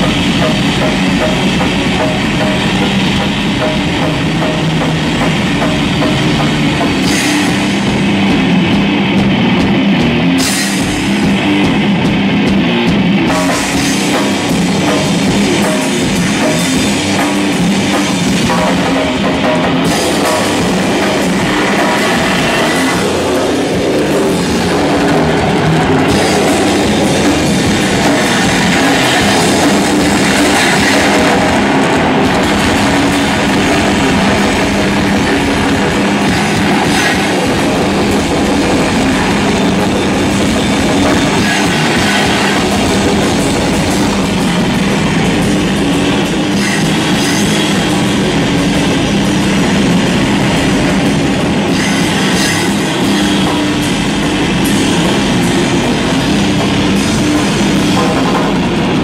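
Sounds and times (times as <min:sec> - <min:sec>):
electric guitar: 0:00.0 - 0:59.0
pounding drum kit: 0:00.0 - 0:59.0.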